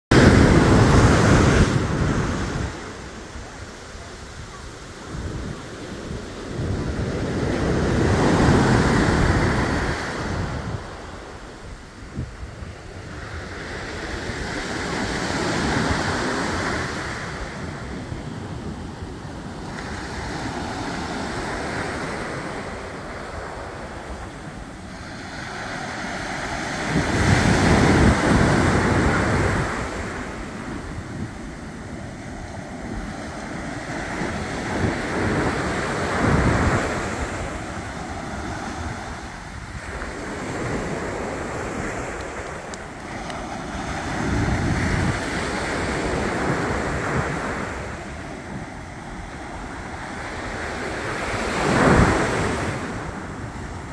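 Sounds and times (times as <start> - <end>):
ocean surf breaking on beach: 0.1 - 53.9
wind gusting on microphone: 0.1 - 53.9.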